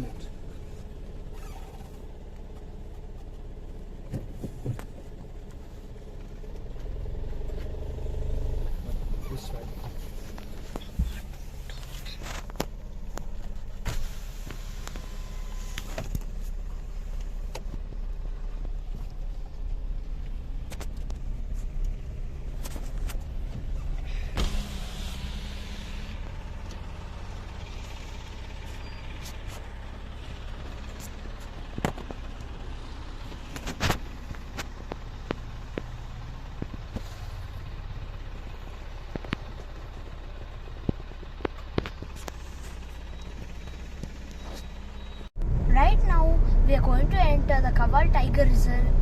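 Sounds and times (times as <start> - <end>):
car interior rumble: 0.0 - 49.0.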